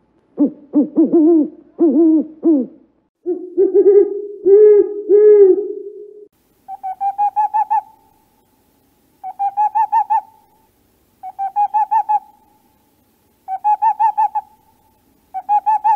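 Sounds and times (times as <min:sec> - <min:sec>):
owl hooting: 0:00.4 - 0:08.5, 0:09.2 - 0:12.7, 0:13.4 - 0:15.9.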